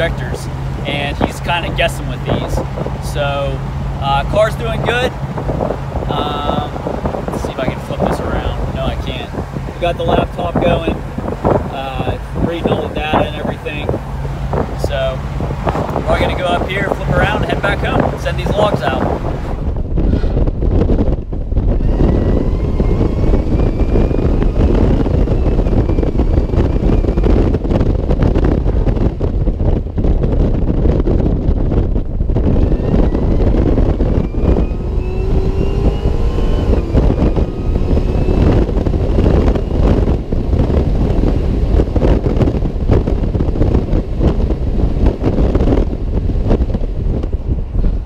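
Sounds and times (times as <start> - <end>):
supercharged car engine whine: 0.0 - 48.0
wind buffeting: 0.0 - 48.0.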